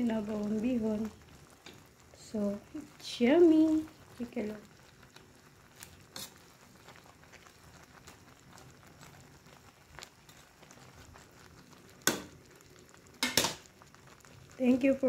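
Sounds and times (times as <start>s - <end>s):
soup ticking in pan: 0.0s - 14.6s.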